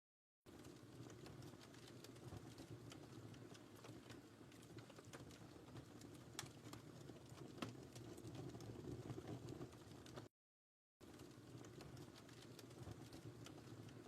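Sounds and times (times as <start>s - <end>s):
fireplace fire crackling: 0.5s - 10.3s, 11.0s - 14.0s.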